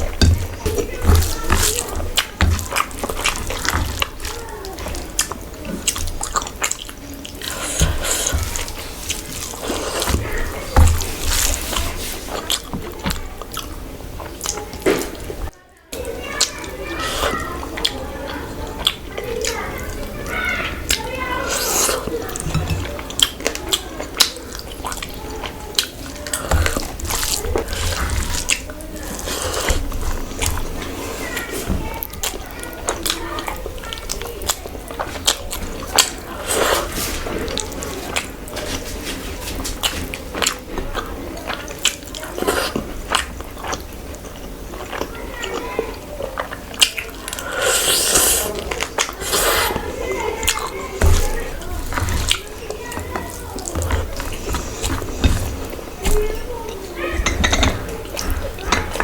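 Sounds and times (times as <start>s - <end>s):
wet chewing sounds: 0.0s - 59.0s.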